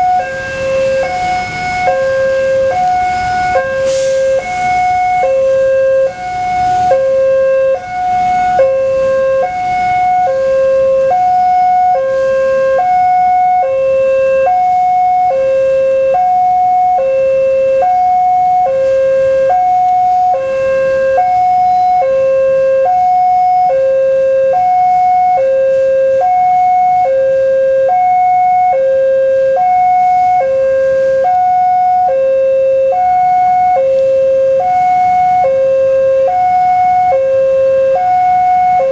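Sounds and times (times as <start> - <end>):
level crossing two-tone alarm: 0.0 - 38.9.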